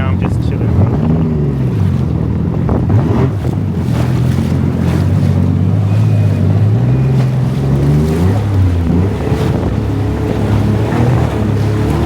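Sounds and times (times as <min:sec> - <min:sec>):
jet ski engine running: 0:00.0 - 0:12.0
wind on microphone: 0:00.0 - 0:12.0.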